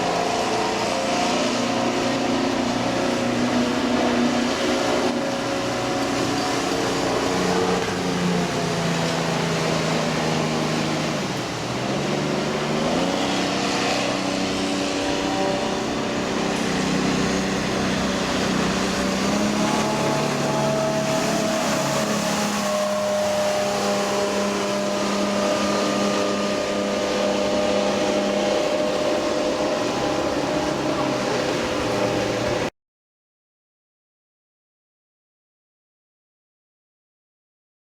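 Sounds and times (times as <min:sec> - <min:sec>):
boat engine running: 0:00.0 - 0:32.7.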